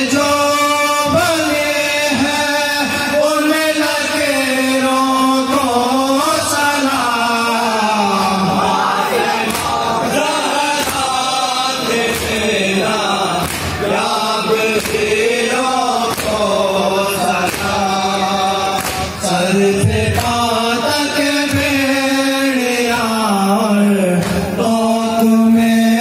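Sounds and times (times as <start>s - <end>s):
men chanting together: 0.0s - 26.0s
rhythmic chest-beating: 0.0s - 26.0s.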